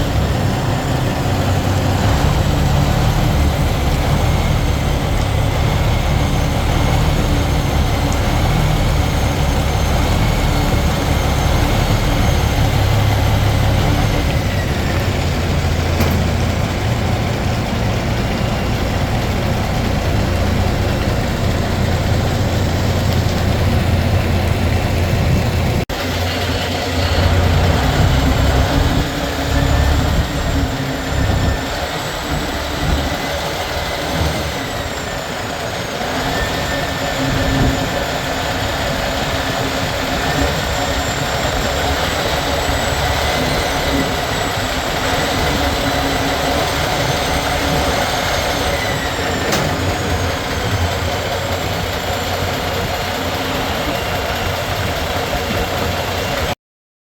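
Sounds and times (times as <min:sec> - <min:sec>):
road noise: 0:00.0 - 0:56.6
vehicle engine hum: 0:00.0 - 0:56.6.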